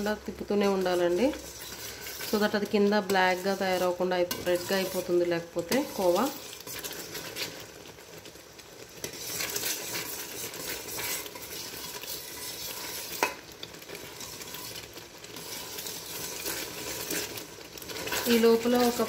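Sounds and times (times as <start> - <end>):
spatula scraping steel pot: 0.0 - 7.6, 9.0 - 19.0
milk bubbling and sizzling: 0.0 - 19.0.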